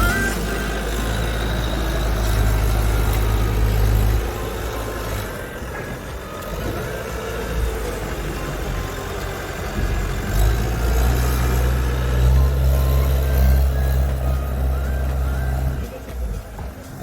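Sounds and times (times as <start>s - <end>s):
skid steer engine rumbling: 0.0s - 17.0s.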